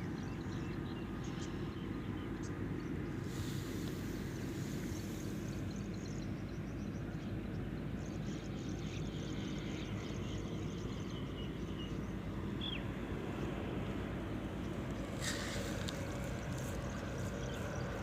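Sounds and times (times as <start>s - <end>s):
small birds chirping: 0.0s - 18.0s
steady low rumble: 0.1s - 8.0s, 9.2s - 18.0s.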